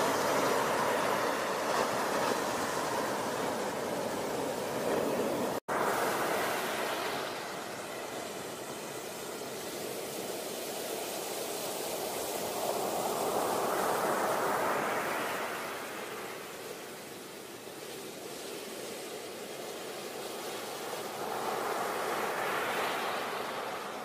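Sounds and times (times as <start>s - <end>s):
sea waves breaking on beach: 0.0s - 24.0s.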